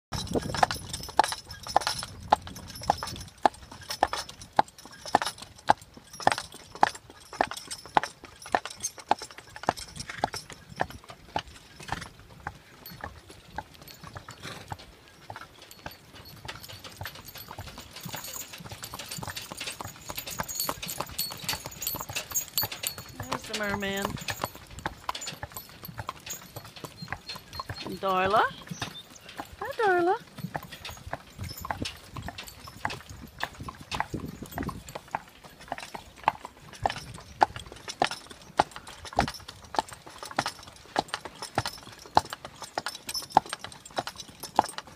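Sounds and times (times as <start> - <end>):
hooves clopping on pavement: 0.1 - 44.9.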